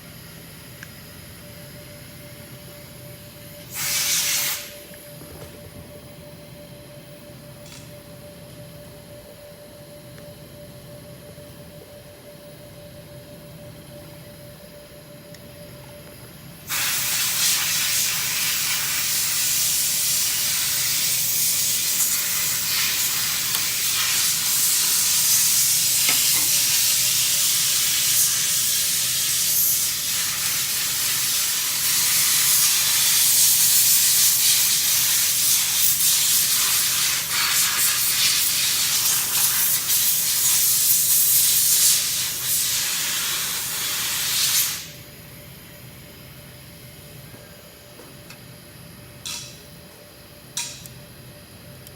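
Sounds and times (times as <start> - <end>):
faint hum with thin tone: 0.0 - 51.9.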